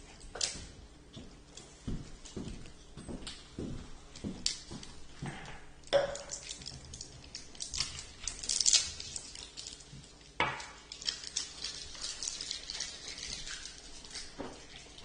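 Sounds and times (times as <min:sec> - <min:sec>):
crackly rustling: 0:00.0 - 0:15.0.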